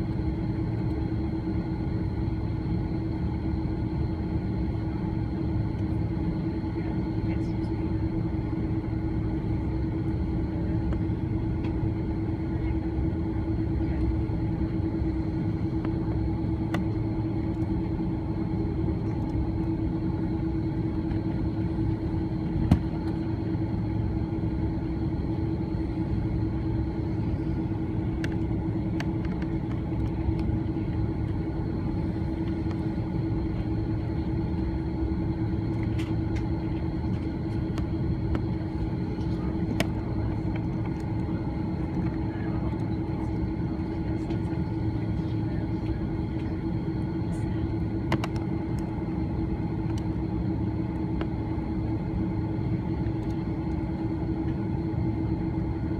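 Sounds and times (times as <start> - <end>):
aircraft cabin rumble: 0.0 - 55.9.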